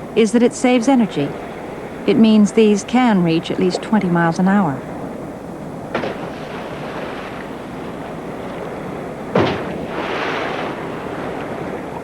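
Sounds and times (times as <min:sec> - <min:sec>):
sea water rushing: 0:00.0 - 0:12.0.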